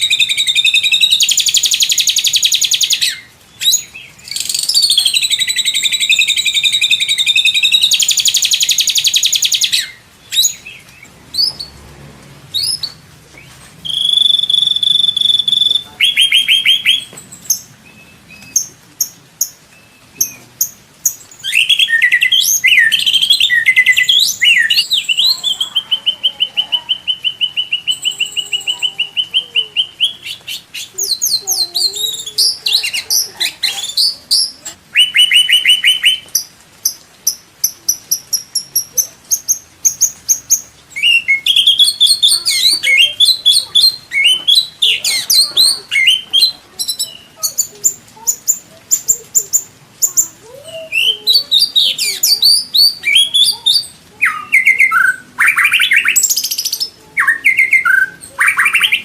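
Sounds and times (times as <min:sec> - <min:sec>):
songbird trills and whistles: 0:00.0 - 0:11.7, 0:12.6 - 0:20.4, 0:21.1 - 0:36.5, 0:38.4 - 0:59.0.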